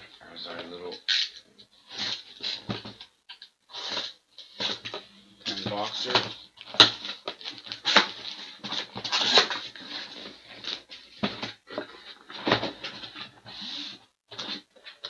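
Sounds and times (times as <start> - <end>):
cardboard rustling and scraping: 0.4 - 3.0, 3.7 - 15.0.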